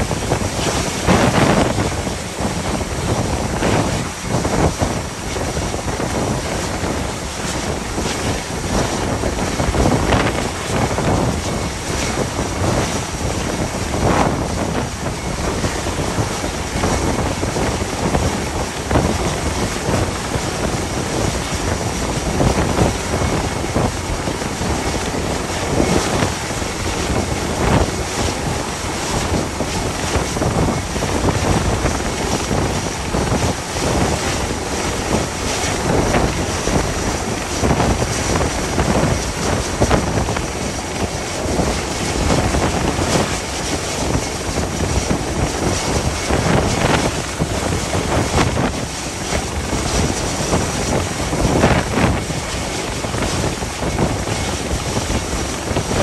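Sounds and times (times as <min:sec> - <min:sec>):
rush of wind and sea: 0:00.0 - 0:56.0
wind gusting across microphone: 0:00.0 - 0:56.0.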